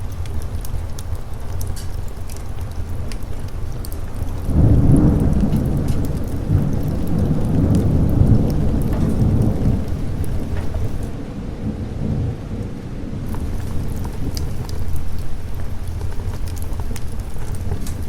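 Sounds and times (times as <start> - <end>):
steady rain: 0.0 - 18.0
thunder rolling: 0.0 - 18.0.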